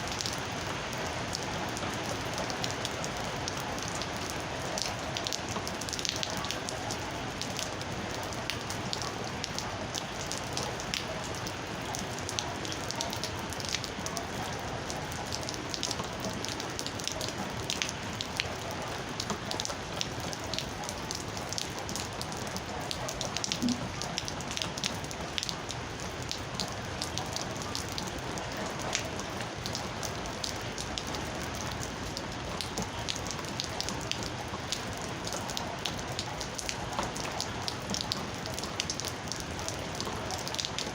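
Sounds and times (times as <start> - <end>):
steady rain falling: 0.0 - 40.9
raindrops ticking: 0.1 - 40.9.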